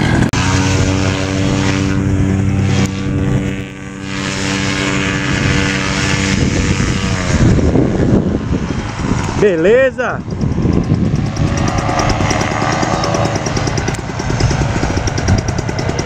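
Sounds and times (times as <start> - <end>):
paramotor engine and propeller: 0.0 - 16.0.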